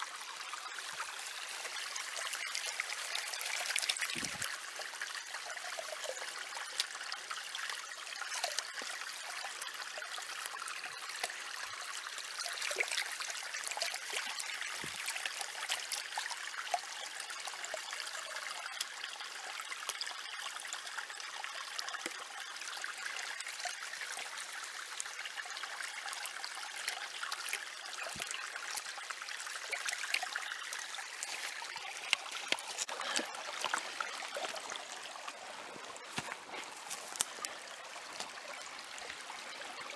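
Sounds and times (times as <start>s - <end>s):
creek running and splashing: 0.0s - 39.9s.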